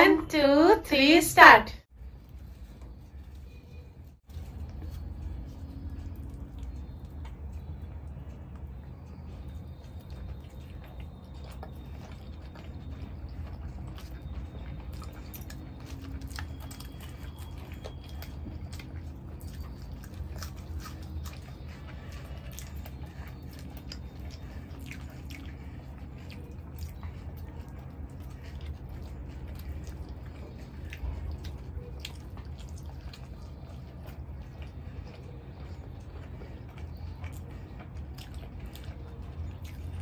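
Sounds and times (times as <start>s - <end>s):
steady low hum: 0.0s - 40.0s
people chewing: 2.0s - 40.0s.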